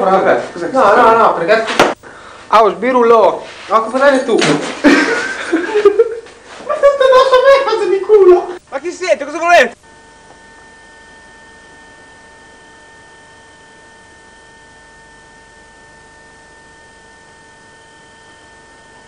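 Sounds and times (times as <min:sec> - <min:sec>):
high electrical whine: 0:00.0 - 0:19.0.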